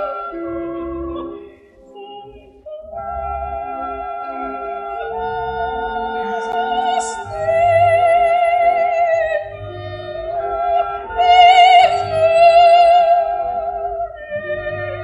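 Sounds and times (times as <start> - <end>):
soft orchestral accompaniment: 0.0 - 15.0
soprano singing with vibrato: 0.0 - 15.0.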